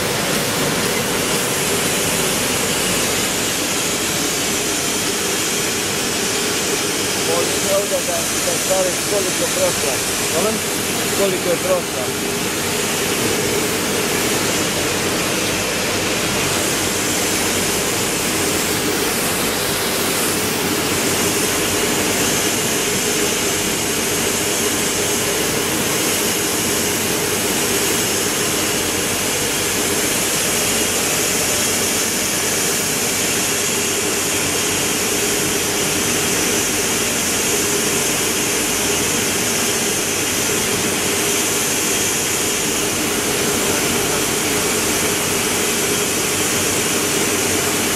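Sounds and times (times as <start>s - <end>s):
printing press mechanical whir: 0.0s - 47.9s.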